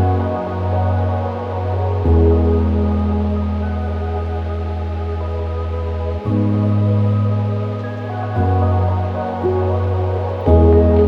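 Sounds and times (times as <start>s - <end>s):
ambient synth chords: 0.0s - 11.0s.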